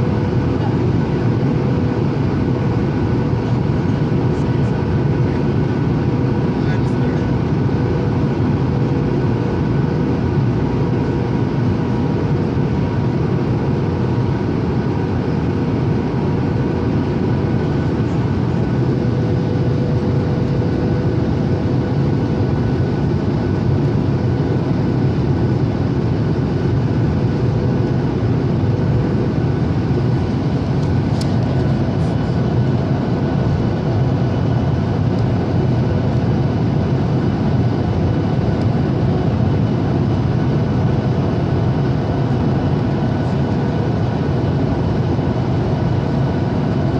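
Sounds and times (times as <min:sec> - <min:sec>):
airplane cabin engine rumble: 0:00.0 - 0:46.9.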